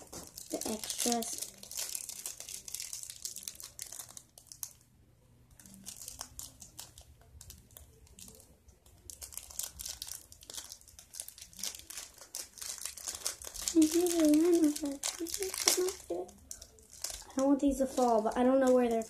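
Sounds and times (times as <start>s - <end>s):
plastic packet crinkling: 0.0s - 4.9s, 5.6s - 19.0s.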